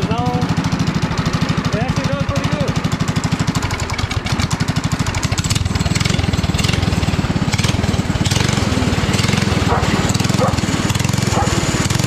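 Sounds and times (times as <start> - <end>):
go-kart engine chugging: 0.0 - 12.0.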